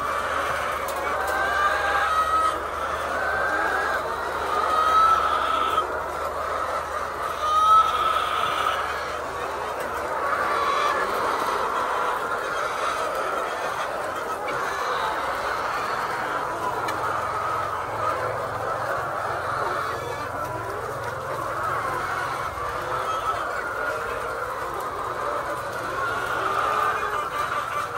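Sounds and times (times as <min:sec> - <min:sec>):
chickens clucking and calling: 0:00.0 - 0:27.9.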